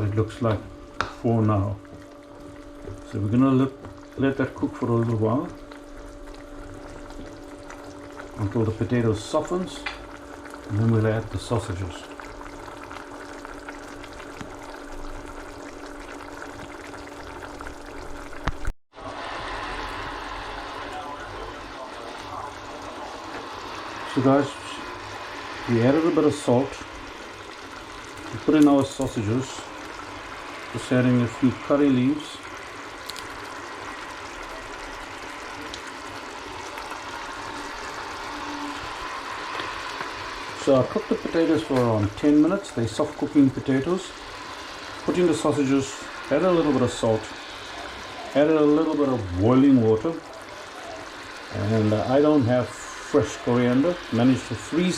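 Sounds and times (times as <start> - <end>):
curry bubbling in a pot: 0.0 - 54.9.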